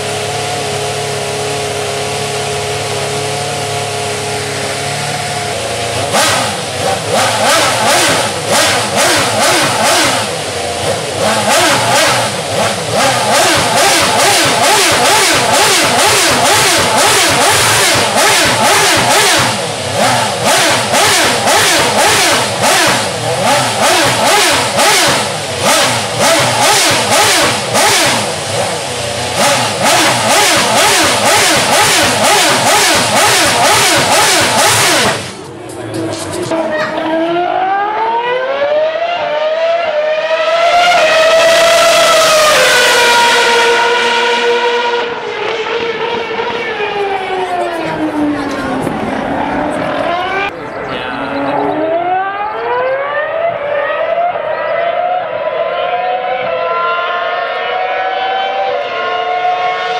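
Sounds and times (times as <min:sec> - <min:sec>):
racing car engine revving: 0:00.0 - 0:59.9.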